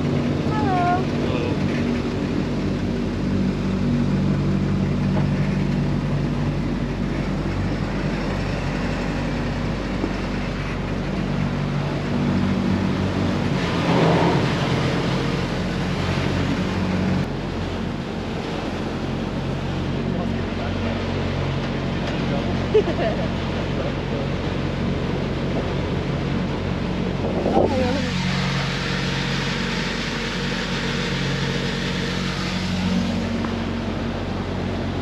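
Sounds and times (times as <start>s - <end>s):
large engine humming: 0.0s - 35.0s
rush of noise: 0.0s - 35.0s.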